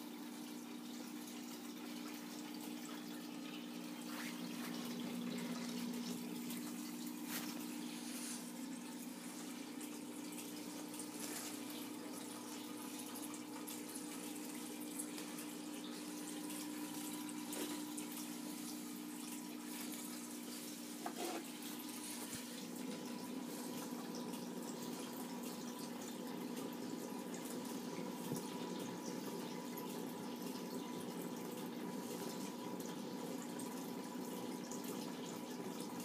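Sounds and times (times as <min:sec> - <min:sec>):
water trickling and bubbling: 0:00.0 - 0:36.0.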